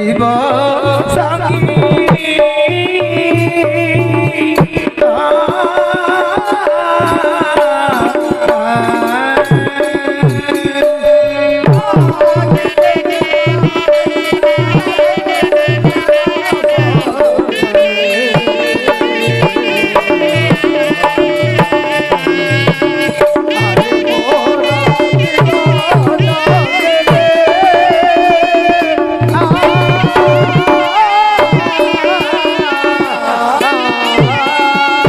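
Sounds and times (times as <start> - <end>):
hand drum steady beat: 0.0 - 35.0.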